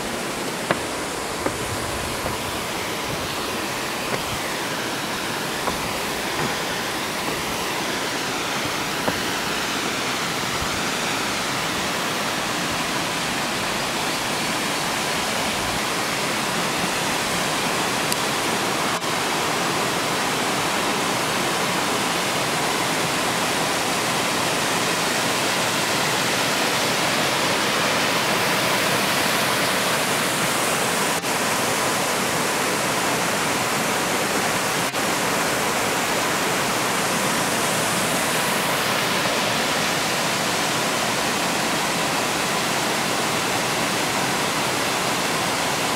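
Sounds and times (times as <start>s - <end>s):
waterfall rushing over rocks: 0.0s - 45.9s.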